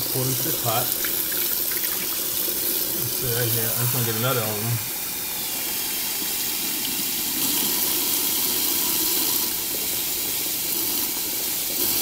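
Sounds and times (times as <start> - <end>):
tap water running into a cup: 0.0 - 12.0
water spilling into a steel sink: 0.0 - 12.0.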